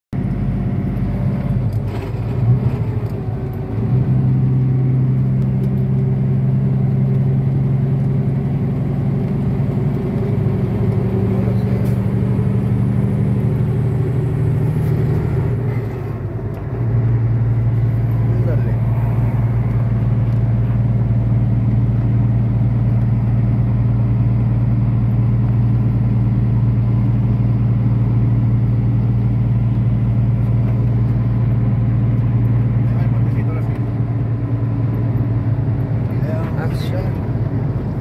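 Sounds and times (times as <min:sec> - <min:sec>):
road noise inside cab: 0:00.2 - 0:38.0
truck diesel engine drone: 0:00.2 - 0:38.0.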